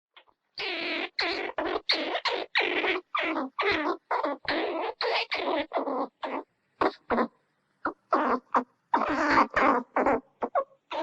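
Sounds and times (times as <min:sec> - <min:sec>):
squirrel raspy barks: 0:00.6 - 0:11.0.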